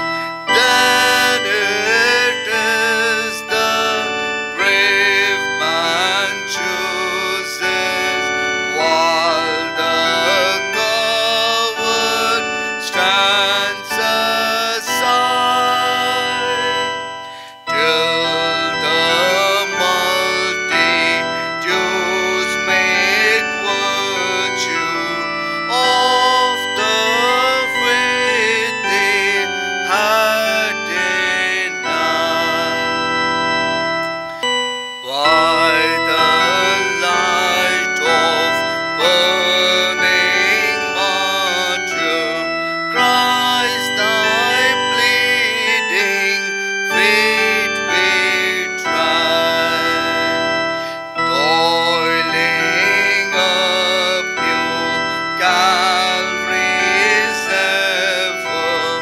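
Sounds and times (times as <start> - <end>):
organ-like keyboard chords: 0.0 - 59.0
person singing a hymn: 0.0 - 59.0.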